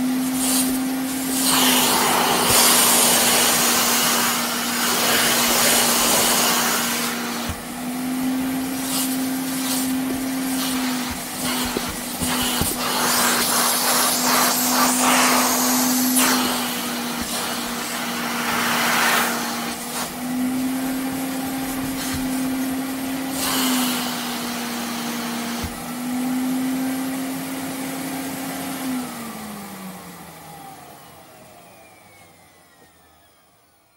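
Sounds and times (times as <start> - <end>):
vacuum cleaner running: 0.0 - 33.9
vacuum motor winding down: 0.0 - 33.9.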